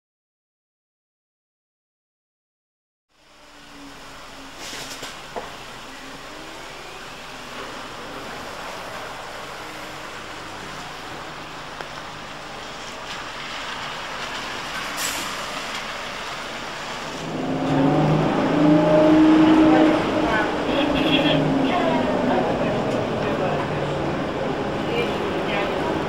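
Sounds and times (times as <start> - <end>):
heavy rain hiss: 3.1 - 26.0
trolleybus drive whining: 3.1 - 26.0.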